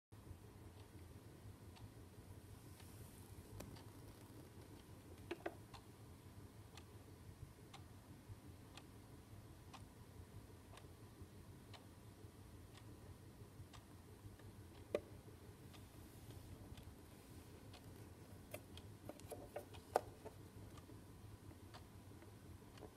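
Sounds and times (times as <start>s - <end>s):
clock ticking faintly: 0.2s - 22.9s.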